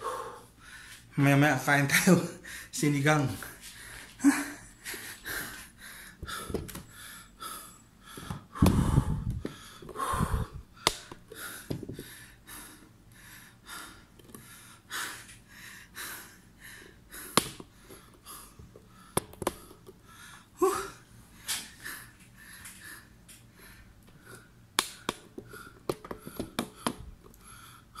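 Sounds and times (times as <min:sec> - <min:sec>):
man panting: 0:00.0 - 0:01.0, 0:02.4 - 0:28.0.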